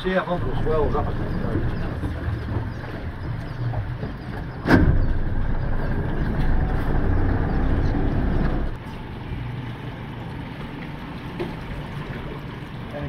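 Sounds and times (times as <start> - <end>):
boat motor rumbling: 0.0 - 13.0.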